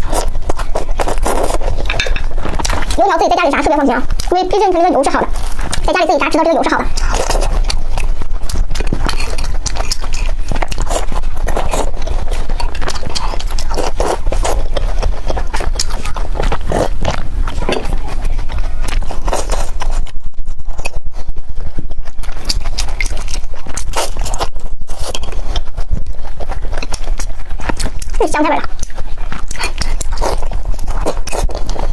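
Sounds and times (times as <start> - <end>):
crisp chewing: 0.0 - 31.9.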